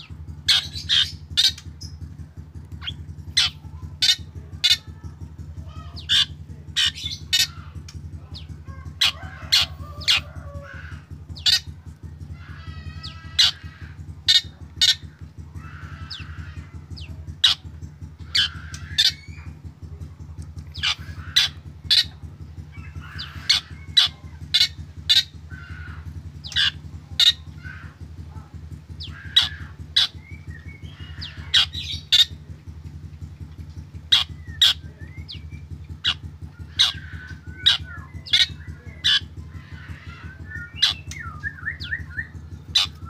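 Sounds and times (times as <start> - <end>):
bird calling: 0.0 - 43.0
steady low hum: 0.0 - 43.0.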